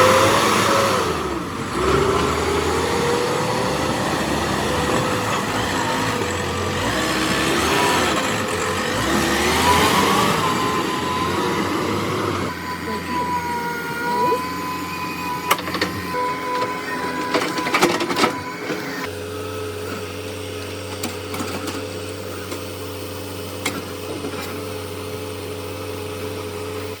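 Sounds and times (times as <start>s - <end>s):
backhoe loader running: 0.0s - 27.0s.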